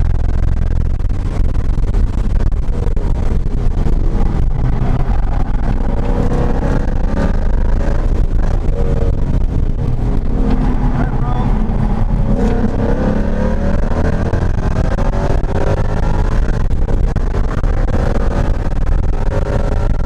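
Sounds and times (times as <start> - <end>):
car engine revving: 0.0 - 20.0
road and tyre noise: 0.0 - 20.0.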